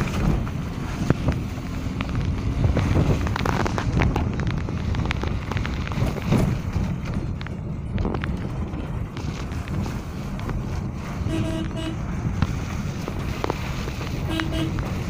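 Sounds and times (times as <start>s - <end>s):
car interior rumble: 0.0s - 15.0s
wind buffeting microphone: 0.0s - 15.0s.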